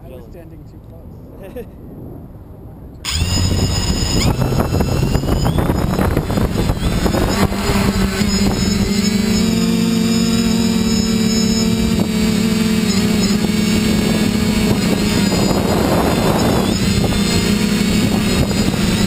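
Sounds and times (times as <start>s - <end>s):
drone motors whining: 3.0s - 19.0s.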